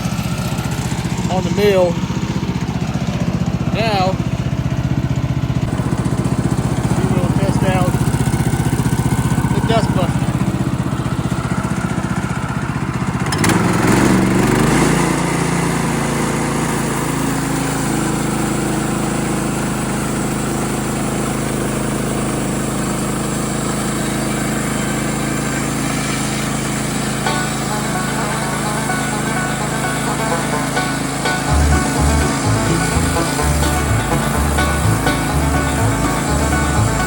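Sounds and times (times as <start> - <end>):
sawmill gas engine: 0.0 - 37.0.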